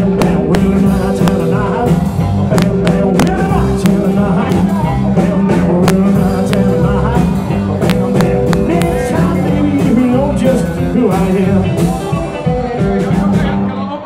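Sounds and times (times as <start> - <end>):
rockabilly band playing live: 0.0 - 14.0.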